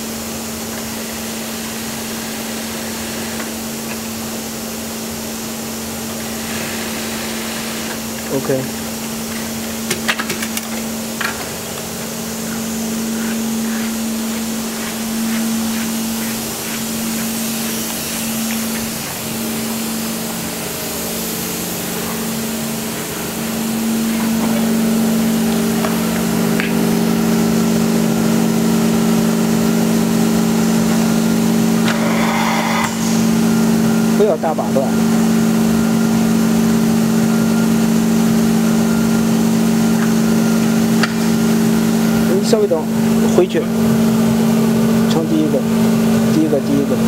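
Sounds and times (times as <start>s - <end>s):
filling machine humming: 0.0s - 47.0s.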